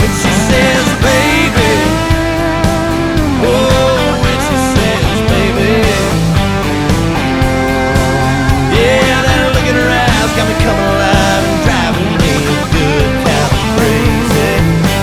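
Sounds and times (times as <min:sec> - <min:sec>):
guitar: 0:00.0 - 0:15.0
steady drum beat: 0:00.0 - 0:15.0.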